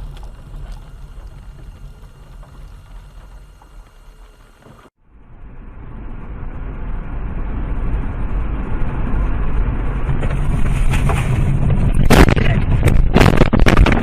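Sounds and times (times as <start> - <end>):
car engine: 0.0 - 12.2
road noise: 0.0 - 12.9.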